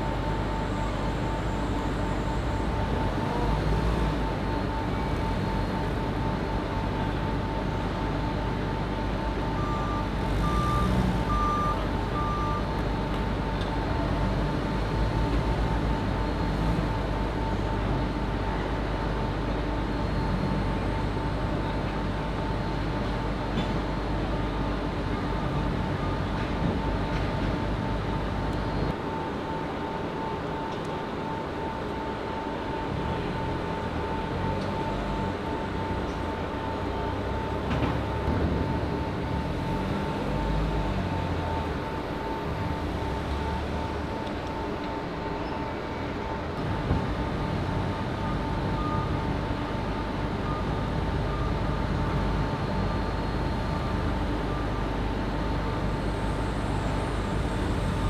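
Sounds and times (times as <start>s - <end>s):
high machinery hum: 0.0s - 58.0s.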